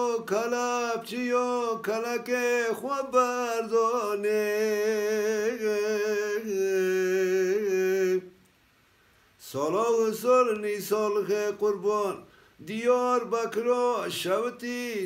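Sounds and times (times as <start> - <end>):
man singing unaccompanied: 0.0 - 8.4, 9.4 - 15.0.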